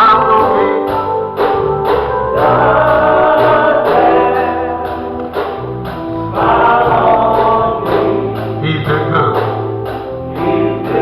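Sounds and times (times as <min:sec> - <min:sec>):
bass line: 0:00.0 - 0:11.0
choir singing gospel: 0:00.0 - 0:11.0.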